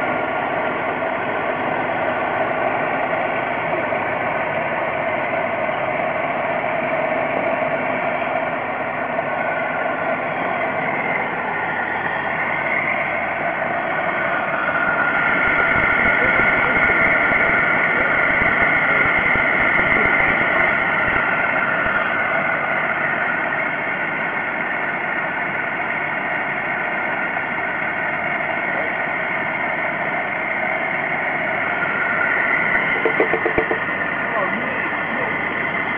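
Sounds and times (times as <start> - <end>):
car engine idling: 0.0 - 35.9
supercharger whine: 0.0 - 35.9.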